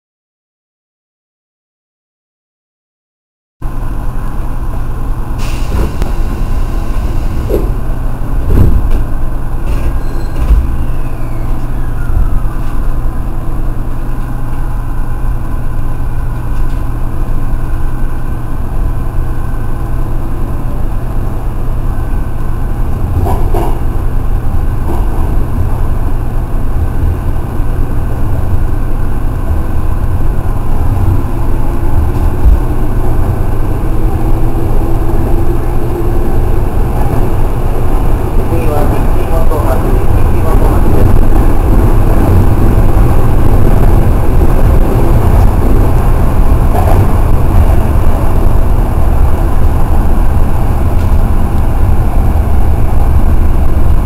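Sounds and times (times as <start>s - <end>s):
electric train rumbling in tunnel: 3.6s - 54.0s
train motor whine: 3.7s - 18.2s, 19.0s - 54.0s.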